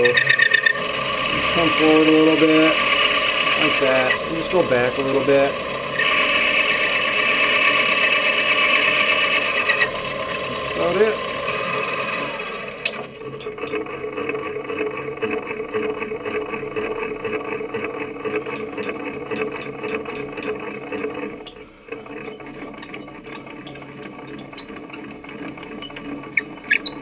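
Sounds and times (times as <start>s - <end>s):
milling machine motor whine: 0.0s - 27.0s.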